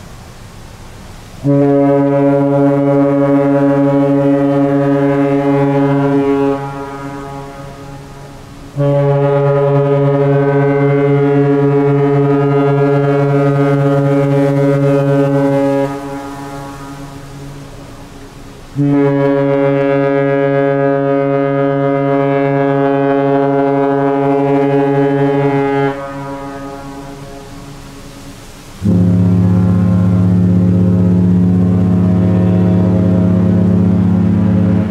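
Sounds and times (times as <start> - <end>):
ship's horn blasts: 0.0 - 34.9.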